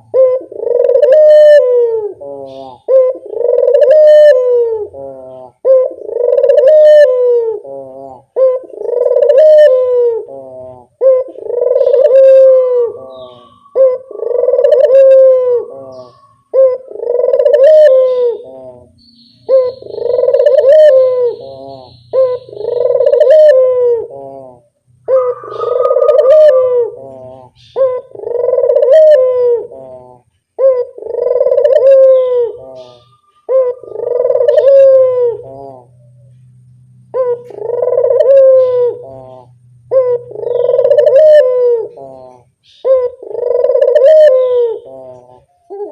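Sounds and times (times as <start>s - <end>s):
dove cooing: 0.0s - 45.9s
faint low hum: 0.0s - 45.9s.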